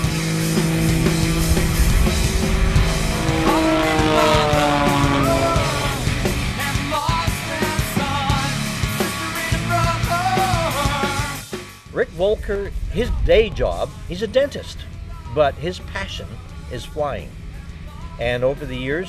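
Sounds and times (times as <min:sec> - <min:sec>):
rock music with guitar and drums: 0:00.0 - 0:19.0.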